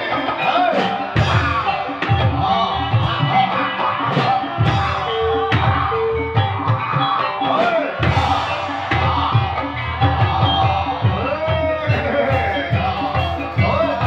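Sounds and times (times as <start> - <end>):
drums beating: 0.0 - 14.0.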